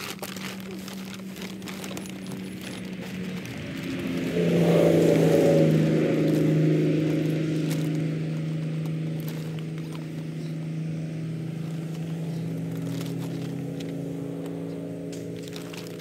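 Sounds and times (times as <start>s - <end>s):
plastic cover crinkling: 0.0s - 4.7s, 6.0s - 10.8s, 11.4s - 16.0s
engine running steadily: 0.0s - 16.0s.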